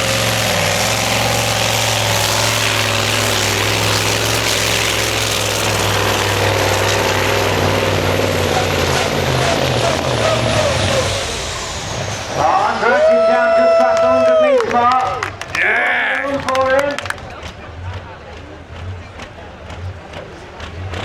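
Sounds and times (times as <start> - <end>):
truck engine droning under load: 0.0 - 21.0.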